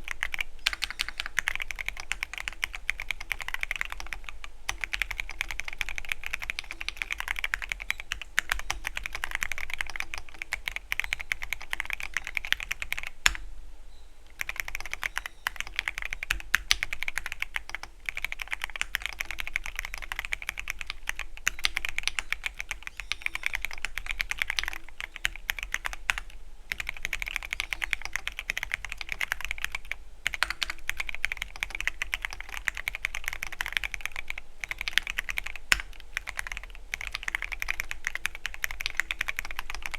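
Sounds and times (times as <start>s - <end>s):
mechanical keyboard typing: 0.0s - 13.4s, 14.4s - 39.9s.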